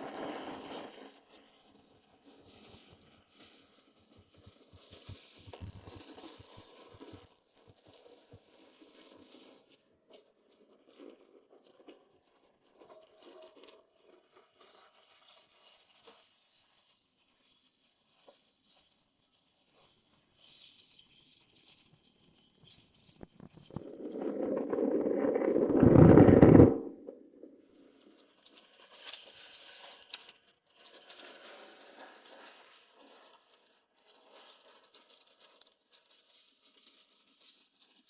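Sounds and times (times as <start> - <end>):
small crackles: 2.5 - 27.5, 28.1 - 38.0.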